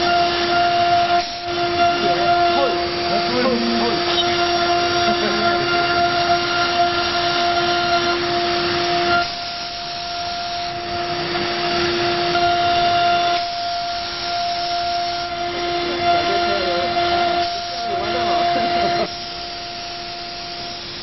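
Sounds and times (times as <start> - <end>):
router spindle whine: 0.0 - 21.0
rushing cutting noise: 0.0 - 21.0.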